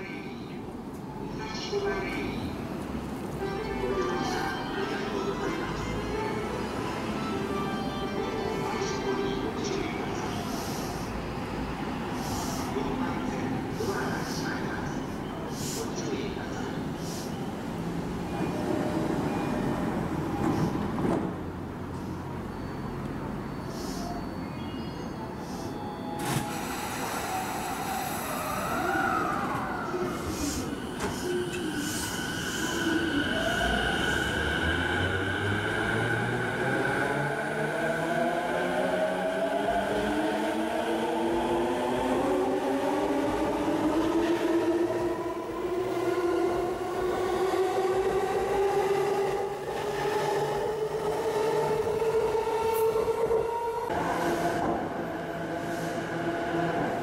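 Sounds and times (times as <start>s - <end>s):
rail and wheel noise: 0.0s - 57.0s.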